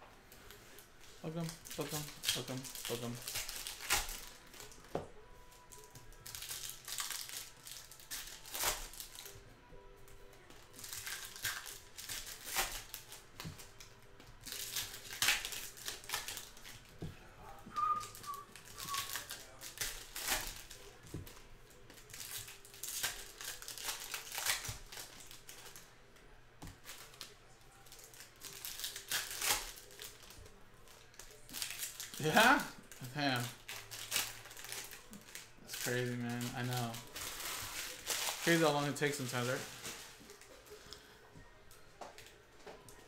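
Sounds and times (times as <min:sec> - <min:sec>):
wrappers crinkling and tearing: 0:00.3 - 0:09.5, 0:10.1 - 0:17.1, 0:17.7 - 0:26.0, 0:26.7 - 0:41.1.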